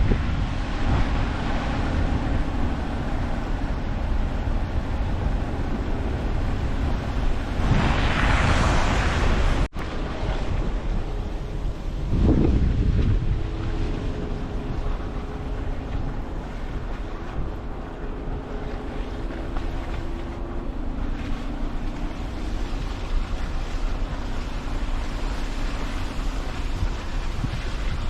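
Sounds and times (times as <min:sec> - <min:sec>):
vehicle engine hum: 0:00.0 - 0:28.0
wind buffeting microphone: 0:00.0 - 0:28.0.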